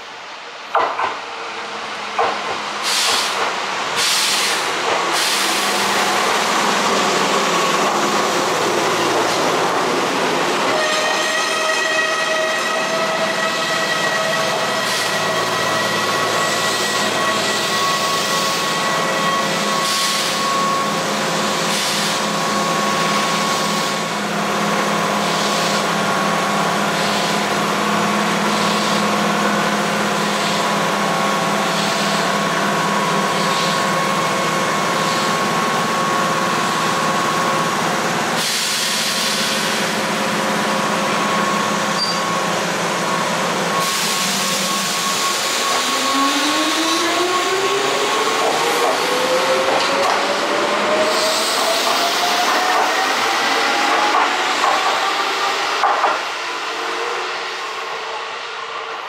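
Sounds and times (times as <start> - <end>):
electrical whine from train: 0.0 - 59.0
train wheels rumbling on rails: 0.0 - 59.0.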